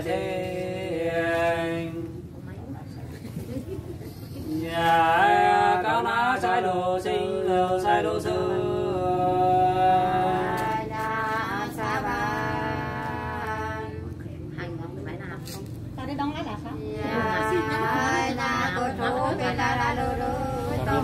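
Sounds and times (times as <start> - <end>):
unaccompanied folk singing: 0.0 - 2.6, 4.0 - 14.3, 16.8 - 21.0.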